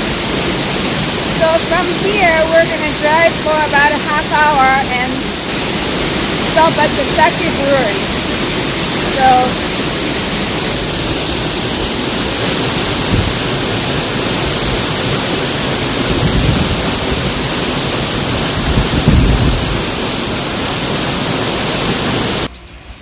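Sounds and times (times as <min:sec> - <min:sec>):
waterfall rushing: 0:00.0 - 0:22.5.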